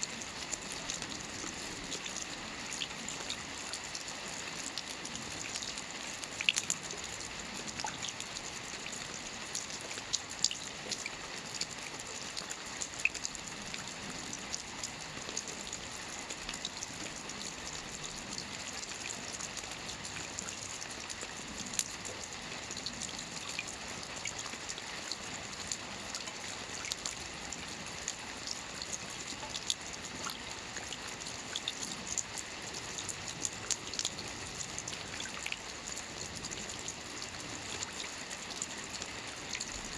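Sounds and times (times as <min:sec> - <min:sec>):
rain falling on a lake: 0:00.0 - 0:39.9.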